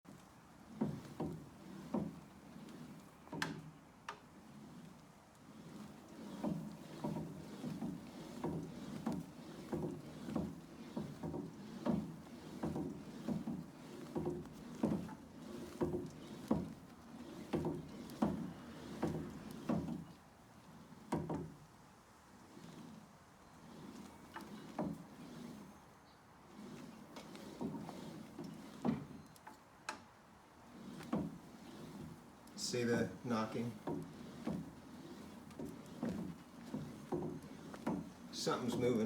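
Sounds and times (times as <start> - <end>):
rhythmic swish of elliptical trainer: 0.1 - 39.0.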